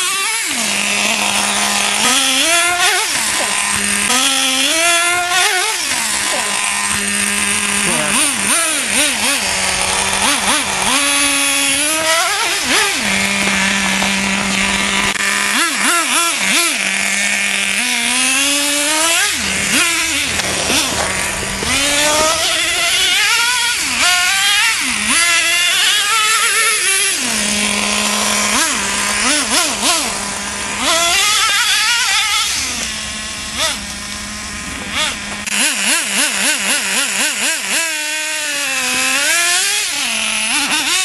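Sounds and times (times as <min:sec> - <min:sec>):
small engine revving: 0:00.0 - 0:41.0.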